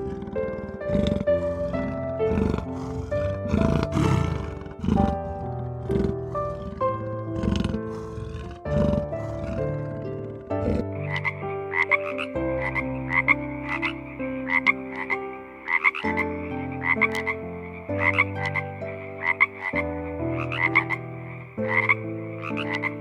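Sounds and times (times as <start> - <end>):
frog croaking: 0.0 - 23.0
soft music with sustained chords: 0.0 - 23.0.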